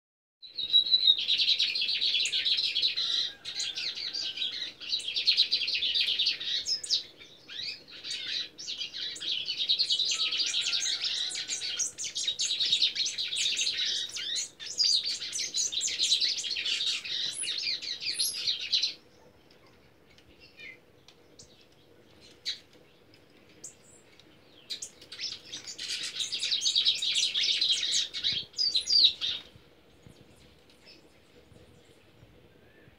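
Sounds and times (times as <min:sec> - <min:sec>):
birds twittering song: 0:00.4 - 0:32.9.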